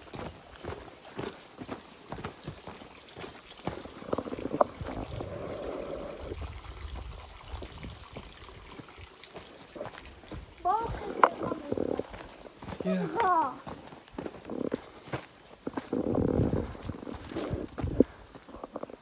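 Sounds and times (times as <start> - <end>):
footsteps on a trail: 0.0 - 5.9, 6.9 - 19.0
running water: 0.0 - 19.0.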